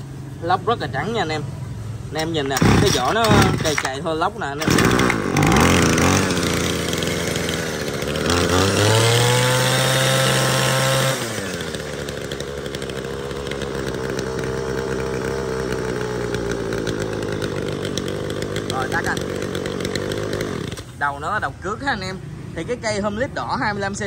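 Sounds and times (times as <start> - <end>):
string trimmer engine revving: 0.0 - 24.0.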